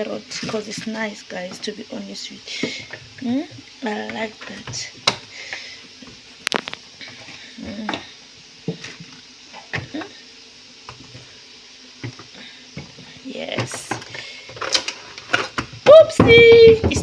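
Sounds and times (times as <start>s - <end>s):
chips frying in oil: 0.0s - 17.0s.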